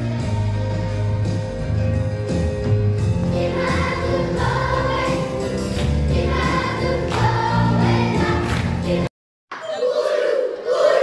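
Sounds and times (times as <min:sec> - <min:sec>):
children's choir singing: 0:00.0 - 0:01.6, 0:03.2 - 0:11.0.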